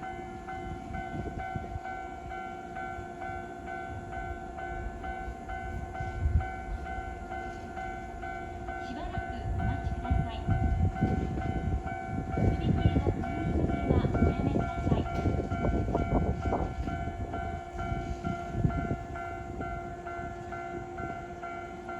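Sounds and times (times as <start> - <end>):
level-crossing bell clanging: 0.0 - 21.9
train wheels rumbling on rails: 0.0 - 21.9.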